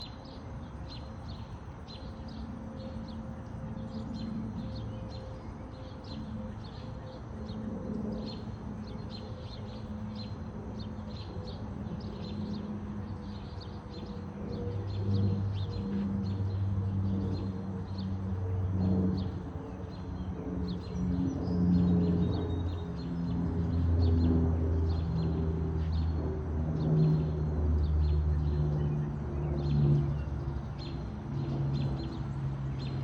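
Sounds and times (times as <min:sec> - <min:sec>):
low mechanical hum: 0:00.0 - 0:33.0
small birds chirping: 0:00.0 - 0:33.0.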